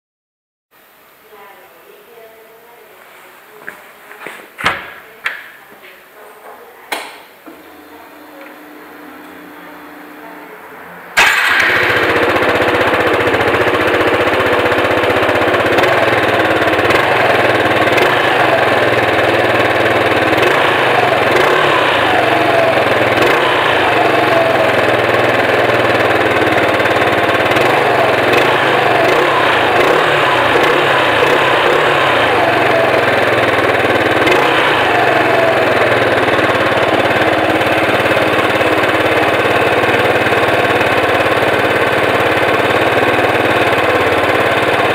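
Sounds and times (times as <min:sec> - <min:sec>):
scooter engine starting and idling: 0:07.0 - 0:44.9.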